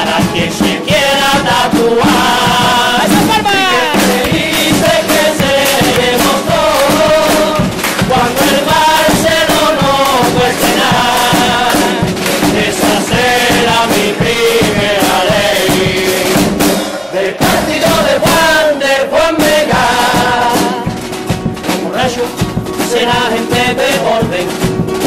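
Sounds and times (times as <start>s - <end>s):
guitars: 0.0s - 18.5s, 19.4s - 25.0s
drum beat: 0.0s - 25.0s
men singing in chorus: 0.0s - 25.0s.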